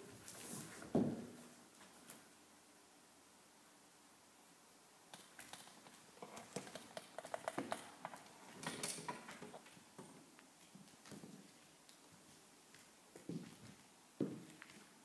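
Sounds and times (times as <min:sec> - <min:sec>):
bare feet on vinyl floor: 0:00.0 - 0:02.3, 0:05.3 - 0:15.0
room hiss: 0:00.0 - 0:15.0.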